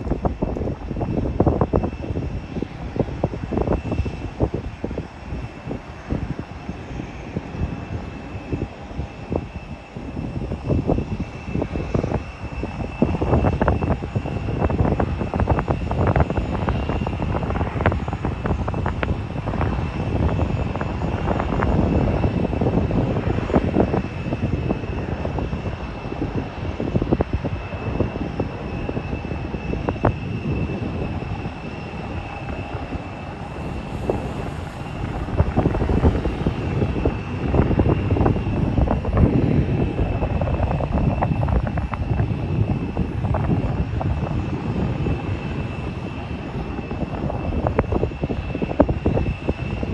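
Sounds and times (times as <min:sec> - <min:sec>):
jet engines whining: 0:00.0 - 0:49.9
wind buffeting microphone: 0:00.0 - 0:49.9.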